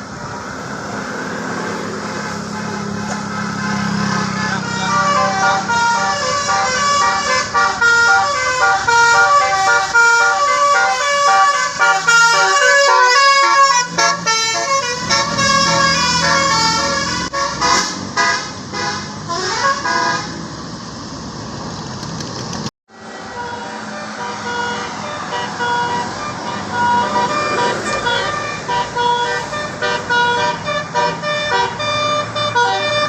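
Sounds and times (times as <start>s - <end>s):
vehicle noise: 0.0s - 33.0s
musical bus horn melody: 2.0s - 20.5s, 22.9s - 33.0s.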